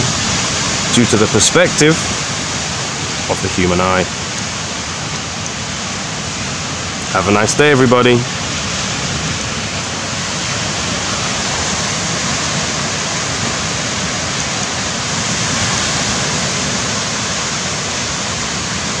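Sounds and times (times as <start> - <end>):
small waves breaking on sand: 0.0 - 19.0.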